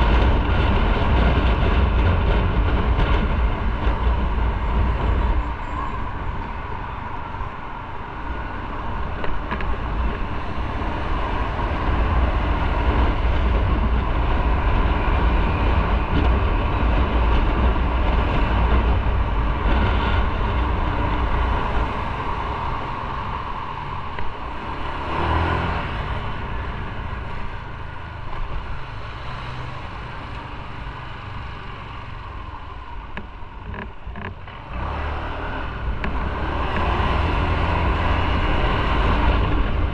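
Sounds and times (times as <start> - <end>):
motorcycle engine rumble: 0.0 - 39.9
wind and road noise: 0.0 - 39.9.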